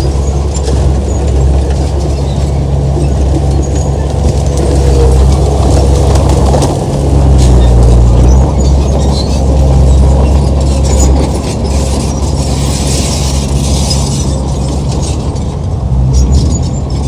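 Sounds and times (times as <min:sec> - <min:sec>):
diesel engine running: 0:00.0 - 0:17.0
steel tracks clanking: 0:00.0 - 0:17.0.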